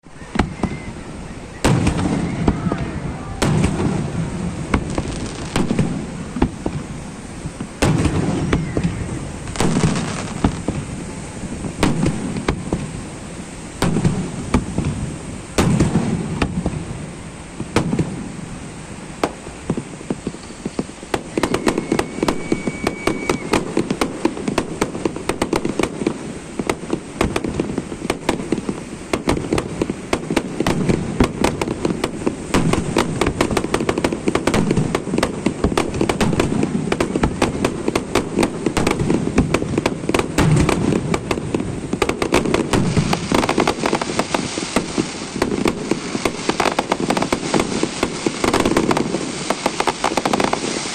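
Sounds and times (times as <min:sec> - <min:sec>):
firework crackling pops: 0:00.0 - 0:50.9
firework shells booming: 0:00.2 - 0:13.0, 0:13.8 - 0:17.0, 0:17.6 - 0:18.4, 0:19.2 - 0:50.9.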